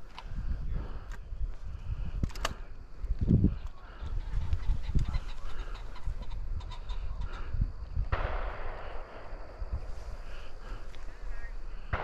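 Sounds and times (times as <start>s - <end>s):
pheasants calling: 0.0s - 12.0s
wind buffeting microphone: 0.0s - 12.0s.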